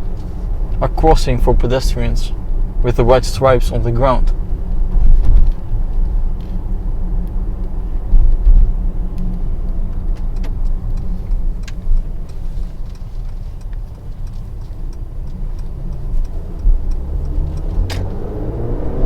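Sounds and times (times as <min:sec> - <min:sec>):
car engine rumble in cabin: 0:00.0 - 0:19.0.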